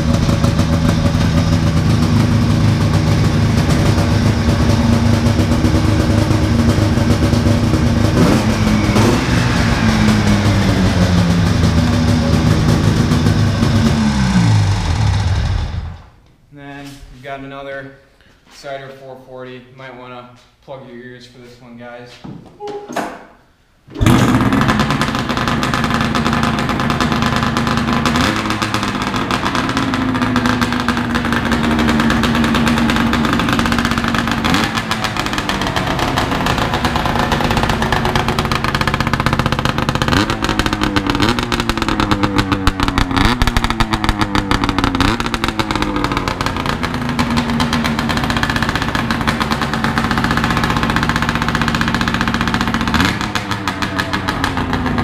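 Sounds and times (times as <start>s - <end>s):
snowmobile engine running: 0.0s - 16.1s, 24.0s - 55.0s
engine revving: 0.0s - 16.2s, 24.0s - 55.0s.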